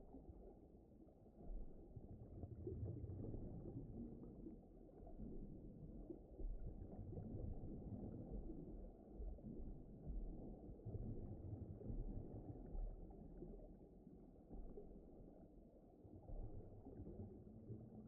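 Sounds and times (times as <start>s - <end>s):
low underwater rumble: 0.0s - 18.0s.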